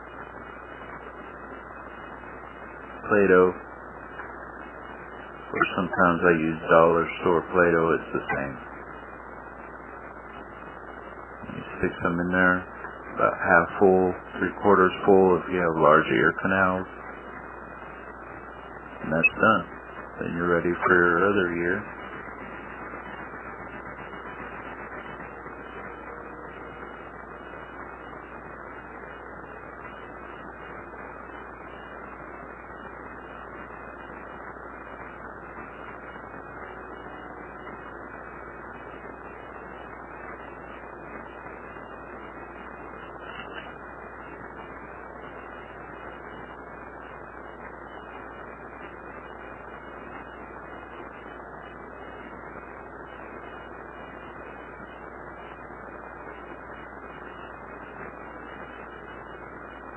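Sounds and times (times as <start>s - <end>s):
background hiss and hum: 0.0s - 59.9s.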